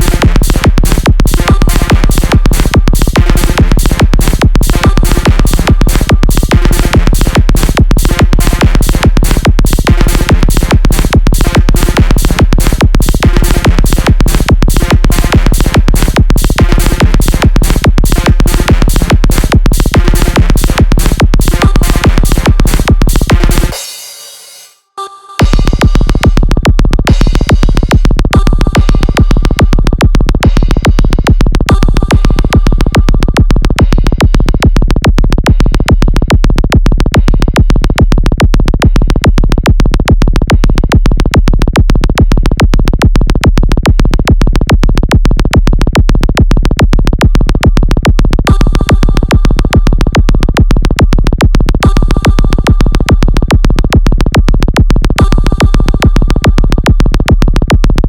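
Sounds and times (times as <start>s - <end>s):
electronic dance music: 0.0s - 58.0s.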